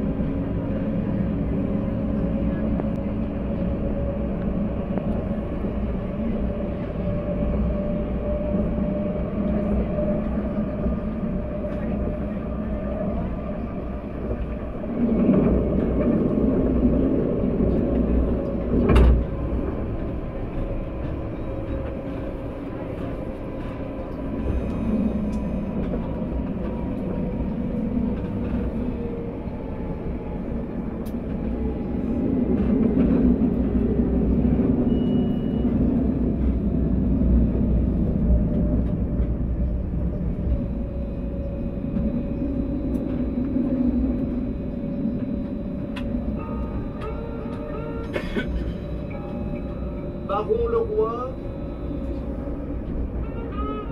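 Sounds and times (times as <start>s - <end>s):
tram wheels rumbling on rail: 0.0s - 53.9s.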